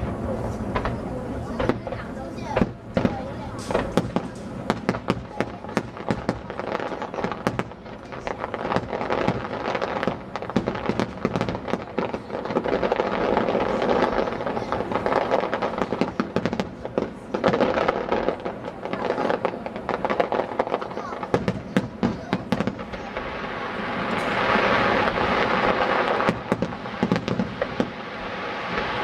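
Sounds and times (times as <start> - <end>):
firework crackling: 0.0 - 29.0
firework shells bursting: 1.6 - 29.0.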